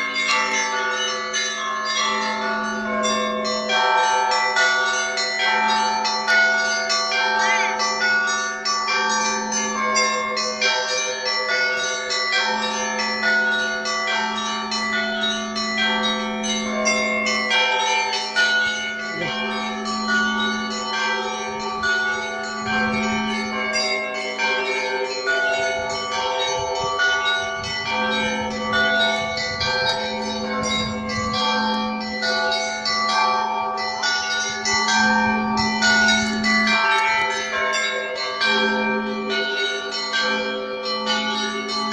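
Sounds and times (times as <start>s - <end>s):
deep bell tolling: 0.0s - 41.9s
small church bells pealing: 0.0s - 41.9s.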